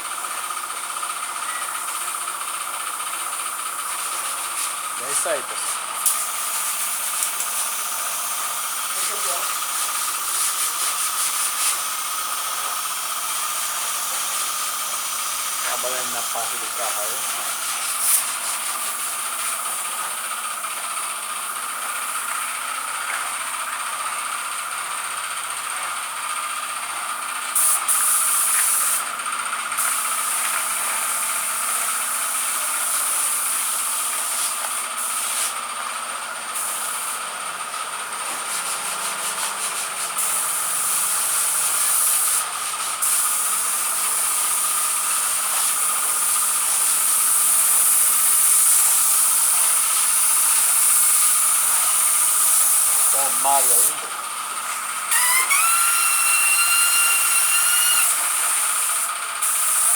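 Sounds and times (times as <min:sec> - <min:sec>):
spray gun hissing: 0:03.0 - 0:20.6, 0:27.5 - 0:29.1, 0:29.8 - 0:35.7, 0:36.5 - 0:59.9.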